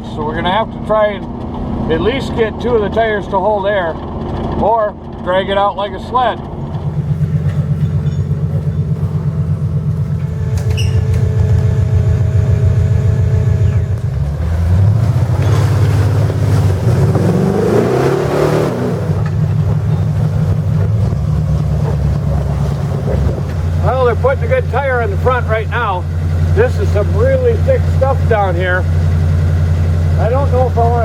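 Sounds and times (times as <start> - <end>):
truck engine idling and revving: 0.0 - 31.0.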